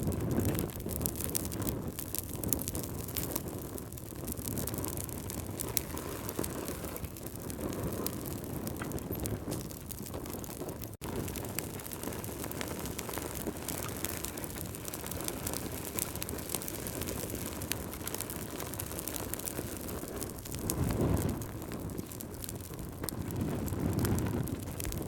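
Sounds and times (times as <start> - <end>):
flames rushing: 0.0 - 25.0
logs crackling and popping: 0.0 - 25.0.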